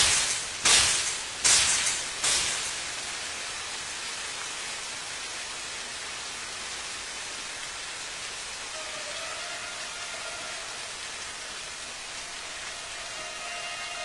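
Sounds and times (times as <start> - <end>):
fire sprinklers spraying water: 0.0 - 14.0.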